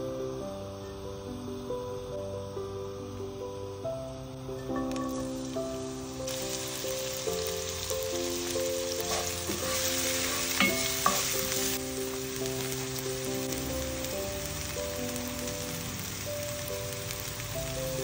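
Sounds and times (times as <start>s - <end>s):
gentle background music: 0.0s - 18.0s
vegetables sizzling in oil: 3.3s - 18.0s.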